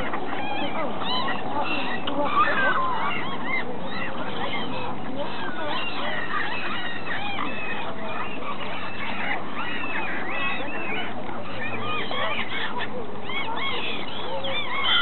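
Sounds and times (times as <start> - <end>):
flock of waterbirds calling: 0.0 - 15.0.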